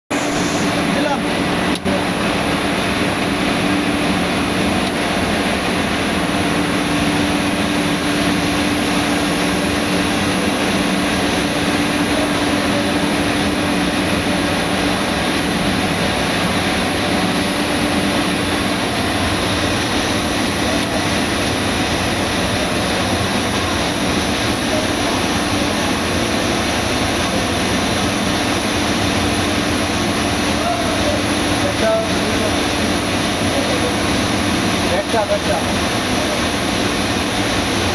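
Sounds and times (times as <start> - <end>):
machinery hum: 0.1 - 37.9
machinery rushing noise: 0.1 - 37.9.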